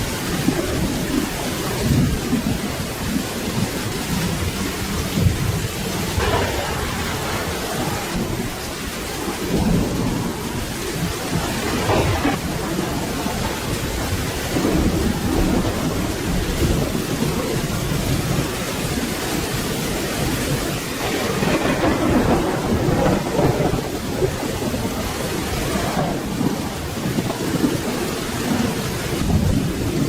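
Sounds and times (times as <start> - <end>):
low thunder rumbling: 0.0 - 30.0
steady rain: 0.0 - 30.0.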